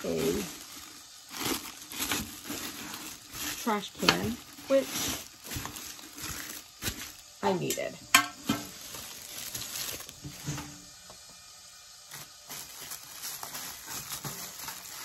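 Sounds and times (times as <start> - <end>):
plastic bag rustling: 0.0 - 11.3, 12.0 - 15.0.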